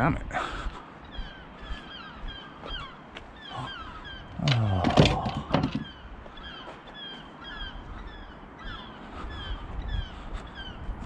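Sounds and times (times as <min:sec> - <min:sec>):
birds short falling calls: 0:00.8 - 0:10.8.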